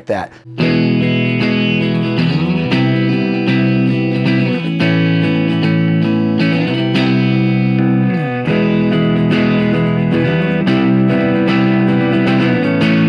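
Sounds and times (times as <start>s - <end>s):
electric guitar strummed chords: 0.5s - 13.0s.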